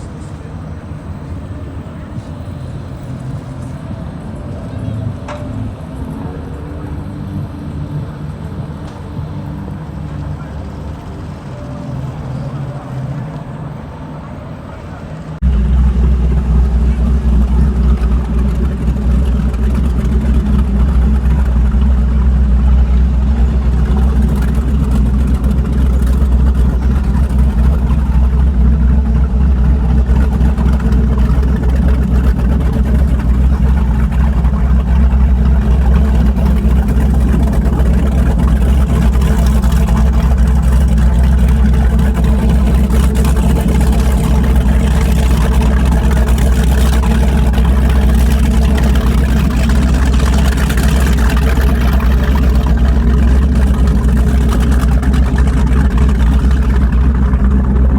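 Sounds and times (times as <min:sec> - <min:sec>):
boat engine rumbling: 0:00.0 - 0:57.9.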